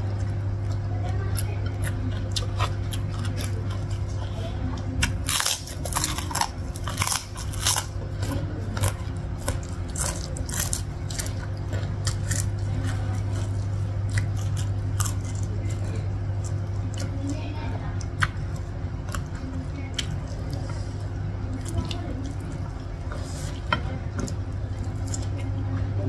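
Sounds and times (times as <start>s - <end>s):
crunchy chewing: 0.0s - 25.7s
steady low hum: 0.0s - 26.0s.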